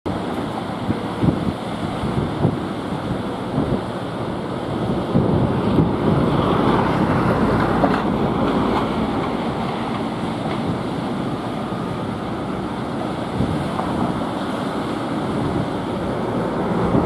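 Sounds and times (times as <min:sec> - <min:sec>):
sea surf breaking: 0:00.1 - 0:17.0
wind buffeting microphone: 0:00.1 - 0:17.0.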